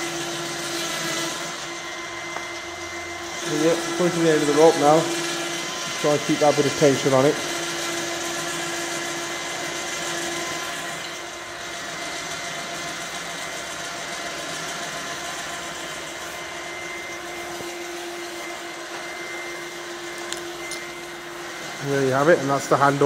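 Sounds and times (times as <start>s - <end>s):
electric winch motor whine: 0.0s - 23.0s.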